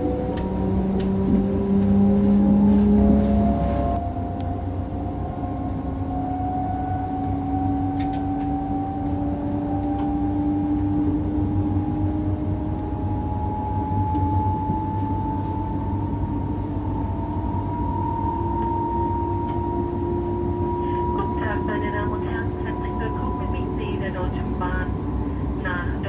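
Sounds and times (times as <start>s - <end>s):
electric traction motor whine: 0.0s - 26.0s.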